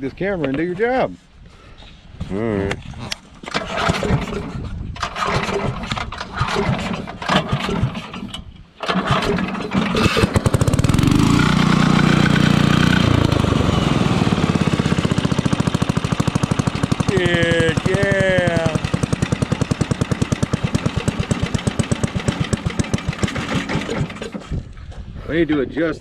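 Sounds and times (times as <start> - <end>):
gasoline engine sputtering and running: 3.5 - 24.7.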